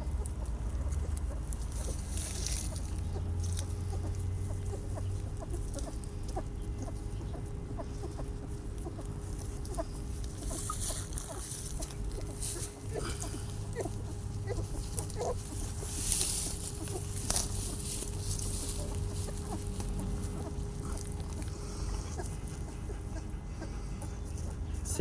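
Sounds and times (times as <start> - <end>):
puppies squeaking: 0.0 - 25.0.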